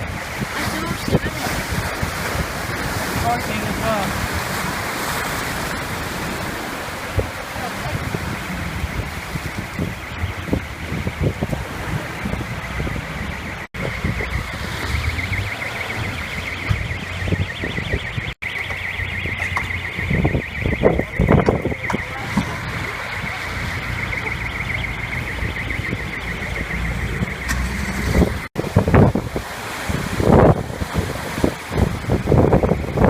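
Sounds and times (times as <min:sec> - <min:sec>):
car alarm pulsing: 0:00.0 - 0:33.0
wind rumbling on microphone: 0:00.0 - 0:33.0.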